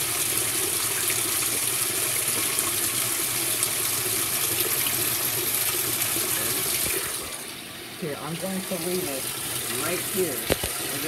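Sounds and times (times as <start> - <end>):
water pouring into washing machine: 0.0 - 11.0.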